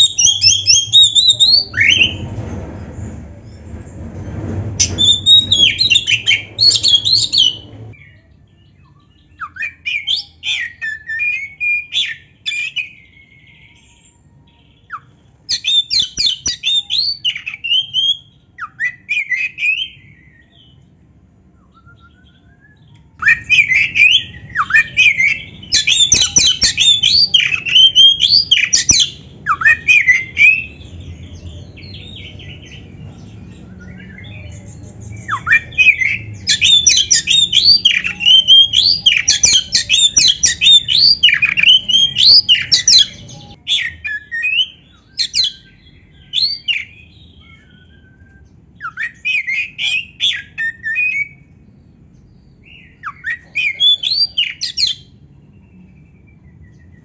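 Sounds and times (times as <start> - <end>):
bird singing whistles and trills: 0.0 - 2.2, 4.8 - 20.8, 21.6 - 51.6, 52.3 - 57.0.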